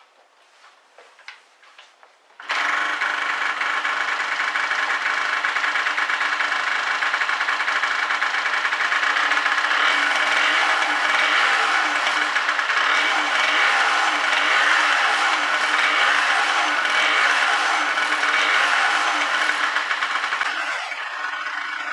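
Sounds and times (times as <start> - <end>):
two-stroke motorcycle engine running: 2.4 - 21.9.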